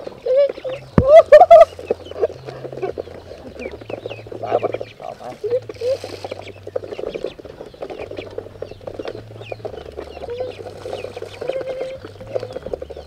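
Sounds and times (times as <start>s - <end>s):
flock of ducks calling: 0.0s - 13.0s
high-pitched peeps: 0.0s - 13.0s.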